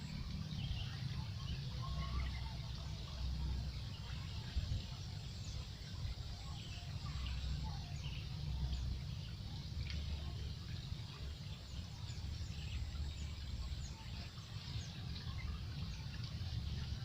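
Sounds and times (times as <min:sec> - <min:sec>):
steady low rumbling noise: 0:00.0 - 0:17.0.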